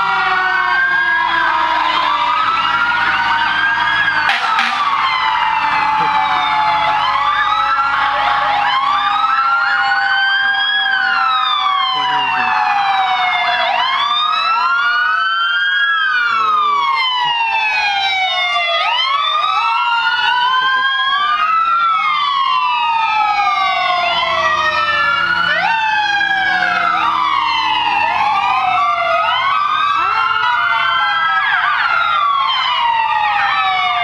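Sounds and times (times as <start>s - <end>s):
fire truck sirens wailing: 0.0s - 34.0s.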